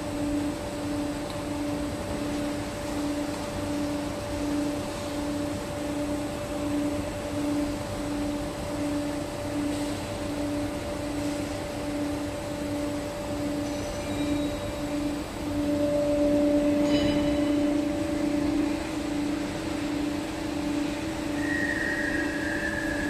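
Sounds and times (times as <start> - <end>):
low pulsing tone: 0.0 - 23.0
steady machine hum: 0.0 - 23.0.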